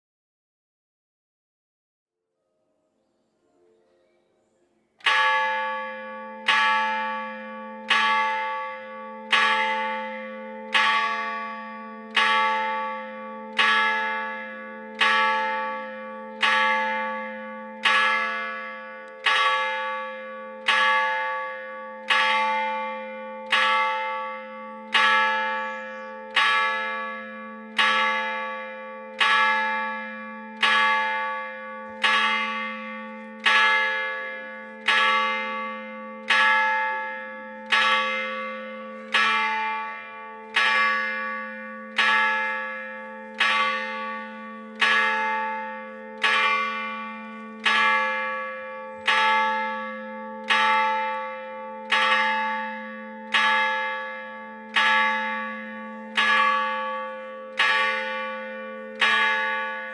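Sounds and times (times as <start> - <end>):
church bell struck by hammer: 5.0 - 59.9.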